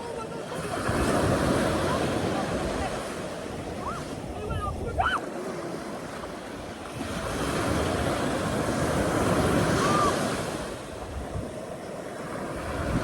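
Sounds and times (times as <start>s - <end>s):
wind buffeting microphone: 0.0s - 5.2s, 6.2s - 13.0s.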